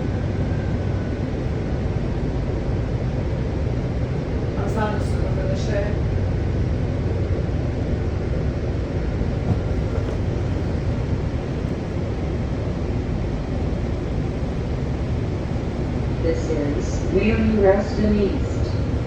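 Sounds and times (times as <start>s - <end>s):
train car rumble and hiss: 0.0s - 19.0s.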